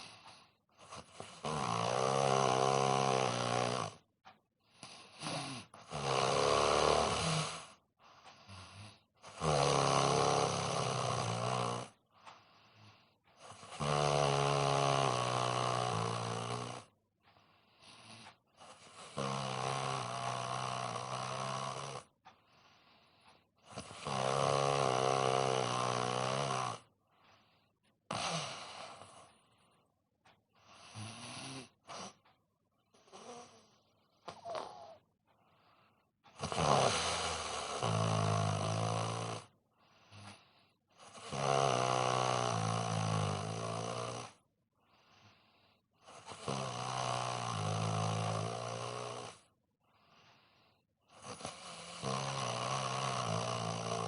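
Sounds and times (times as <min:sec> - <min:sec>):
man snoring: 0:00.0 - 0:17.0, 0:17.7 - 0:29.6, 0:30.6 - 0:32.2, 0:32.9 - 0:35.0, 0:35.6 - 0:54.0.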